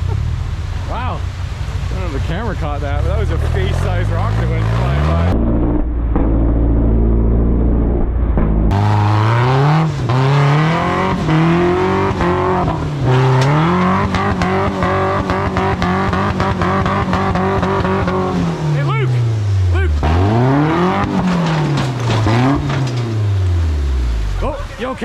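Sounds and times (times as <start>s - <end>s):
buggy engine revving hard: 0.0s - 6.5s, 8.7s - 24.7s.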